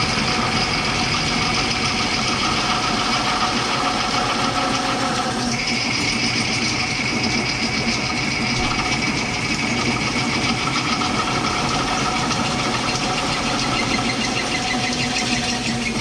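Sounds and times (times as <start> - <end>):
drill press humming and whining: 0.0 - 16.0.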